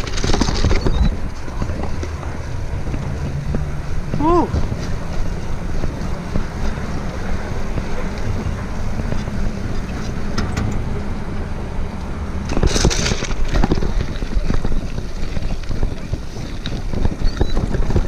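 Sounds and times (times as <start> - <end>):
tyres rolling on wet concrete: 0.0 - 18.0
wind buffeting microphone: 0.0 - 18.0.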